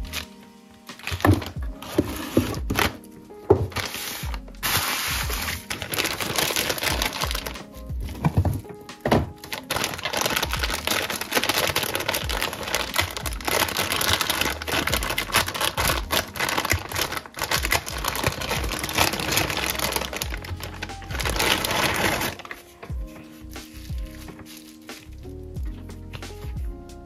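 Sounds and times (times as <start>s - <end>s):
background music: 0.0s - 27.0s
plastic bag crinkling: 1.0s - 25.3s.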